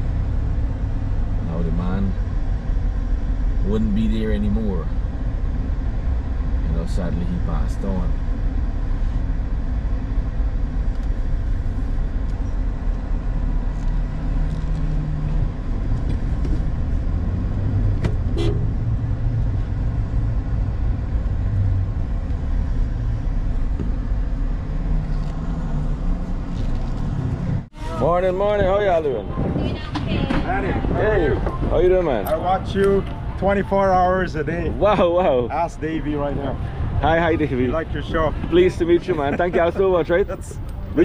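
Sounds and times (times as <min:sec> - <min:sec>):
car engine hum: 0:00.0 - 0:41.0
low road rumble: 0:00.0 - 0:41.0.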